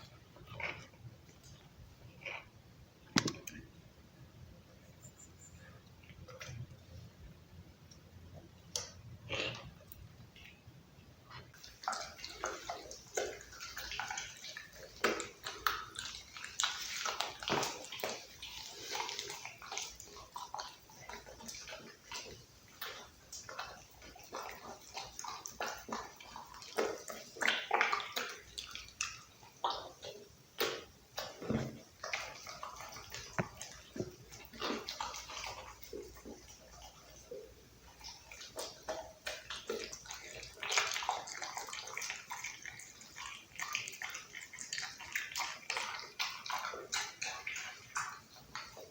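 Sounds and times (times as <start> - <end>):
dog chewing meat: 0.1 - 2.6, 11.4 - 48.9.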